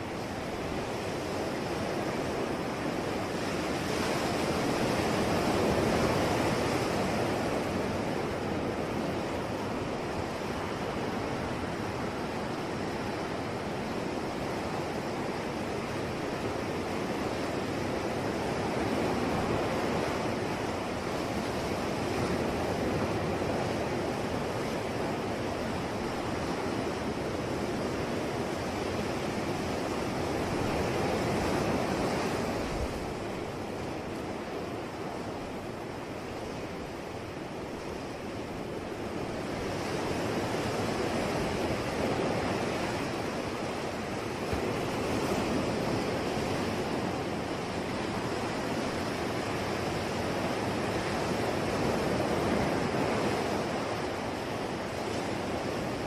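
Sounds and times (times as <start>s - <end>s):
sea waves breaking: 0.0s - 56.0s.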